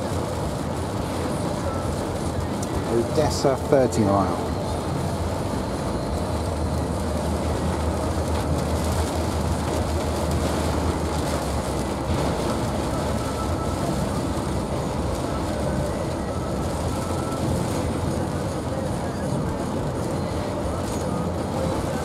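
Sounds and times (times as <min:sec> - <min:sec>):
heavy rain hissing on roof: 0:00.0 - 0:22.0
vehicle road rumble: 0:00.0 - 0:22.0.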